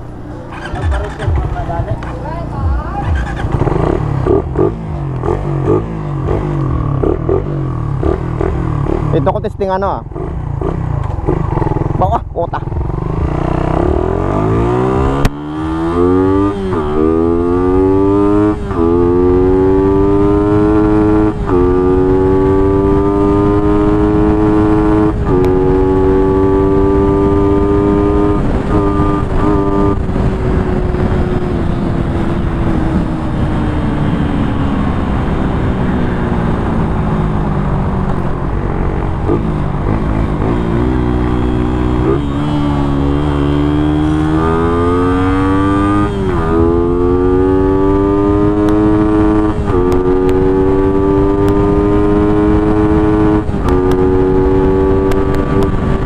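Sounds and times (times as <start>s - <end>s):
motorcycle engine accelerating: 0.0s - 56.0s
wind rushing over microphone: 0.0s - 56.0s.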